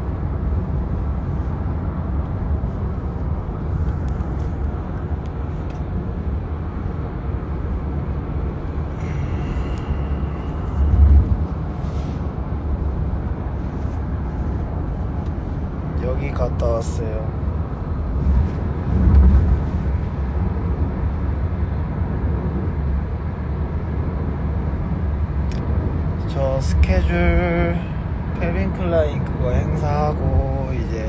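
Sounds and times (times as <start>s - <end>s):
car tyres and engine rumble: 0.0s - 31.0s.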